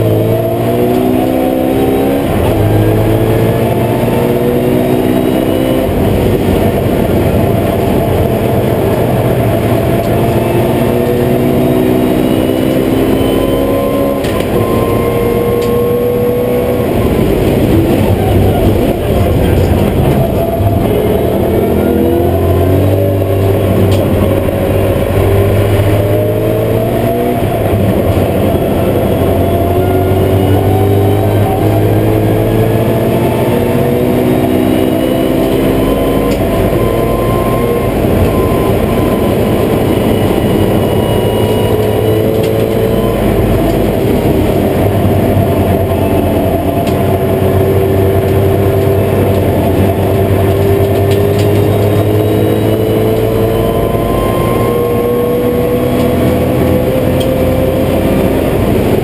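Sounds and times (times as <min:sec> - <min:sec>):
race car engine accelerating: 0:00.0 - 0:59.0
road and tyre noise: 0:00.0 - 0:59.0.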